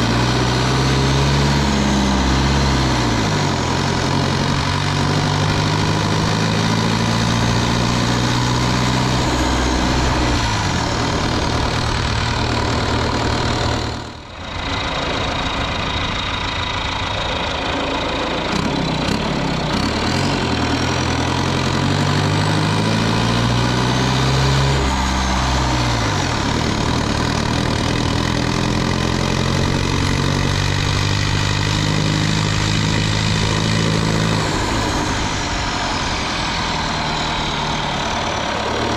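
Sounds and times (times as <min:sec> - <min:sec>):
diesel truck engine revving: 0:00.0 - 0:38.9
wind: 0:00.0 - 0:38.9.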